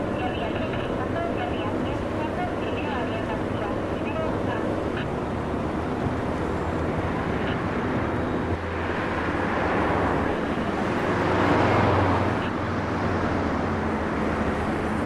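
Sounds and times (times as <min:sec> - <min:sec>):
car passing: 0:00.0 - 0:15.0
street traffic rumble: 0:00.0 - 0:15.0.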